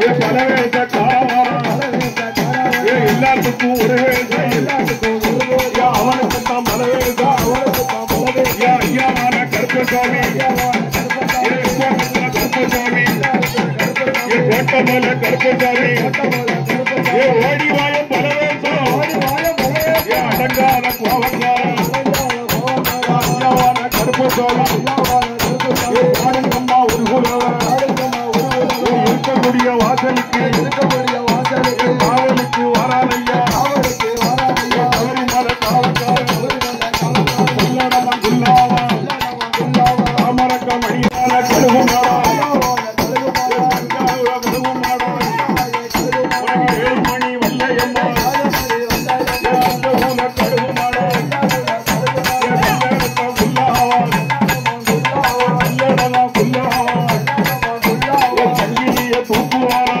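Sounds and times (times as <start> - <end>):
fast driving drumming: 0.0 - 60.0.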